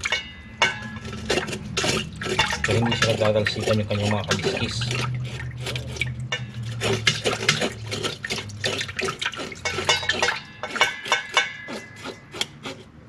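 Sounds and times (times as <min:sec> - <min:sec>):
water sloshing in bowl: 0:00.0 - 0:13.0
knife scraping fish scales: 0:01.0 - 0:13.0.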